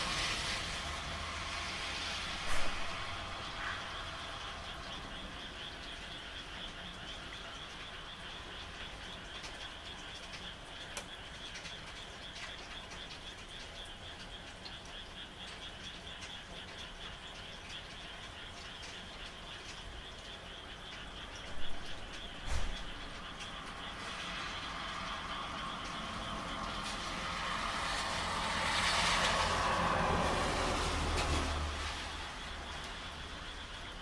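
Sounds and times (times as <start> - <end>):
rain falling: 0.0 - 34.0
raindrops ticking: 0.0 - 34.0
frogs trilling: 0.9 - 34.0.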